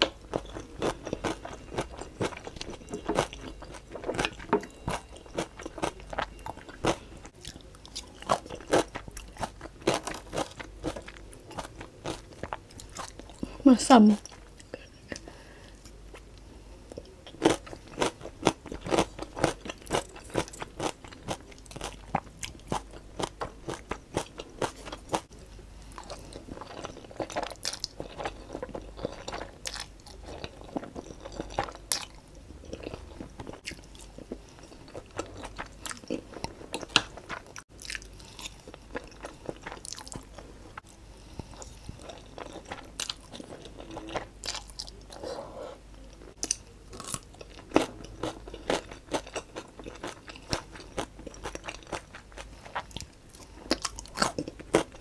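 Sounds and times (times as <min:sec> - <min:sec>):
chewing noodles: 0:00.0 - 0:13.5, 0:16.9 - 0:45.4, 0:46.2 - 0:55.0.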